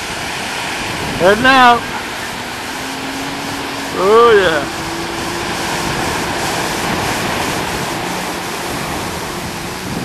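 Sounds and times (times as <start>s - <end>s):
faint outboard motor drone: 0.0s - 10.0s
surf and choppy sea: 0.0s - 10.0s
wind buffeting microphone: 0.0s - 10.0s.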